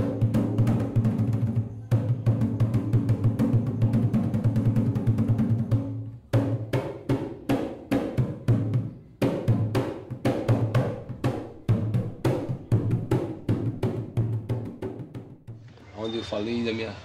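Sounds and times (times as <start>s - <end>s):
bass drum struck in rhythm: 0.0s - 15.6s.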